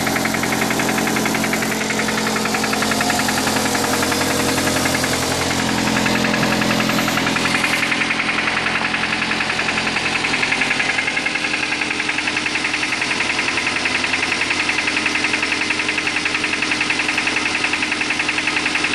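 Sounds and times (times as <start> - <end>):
car engine knocking: 0.0 - 18.9.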